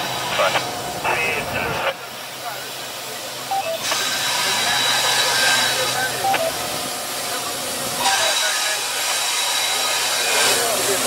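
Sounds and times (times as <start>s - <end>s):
locomotive engine hum: 0.0s - 11.0s
loud steady hiss: 0.0s - 11.0s.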